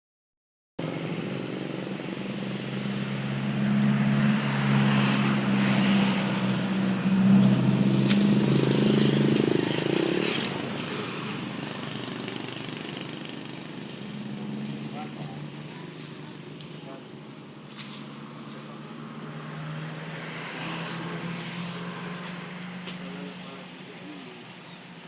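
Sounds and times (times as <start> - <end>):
vehicle engine running: 0.8 - 25.0.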